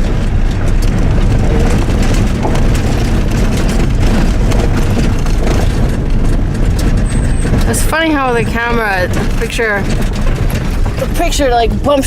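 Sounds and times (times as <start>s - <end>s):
knocks and rattles on bumpy road: 0.0s - 12.0s
vehicle rumble from inside: 0.0s - 12.0s.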